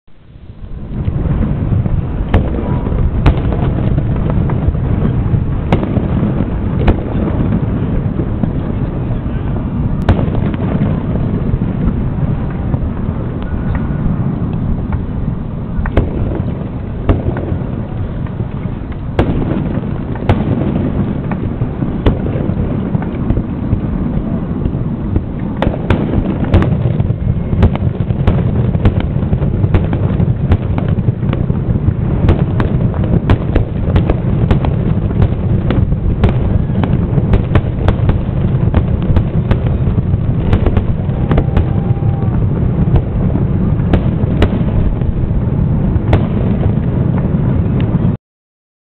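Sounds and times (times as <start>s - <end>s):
fireworks bangs and crackles: 0.1s - 48.2s
steady low rumble: 0.1s - 48.2s.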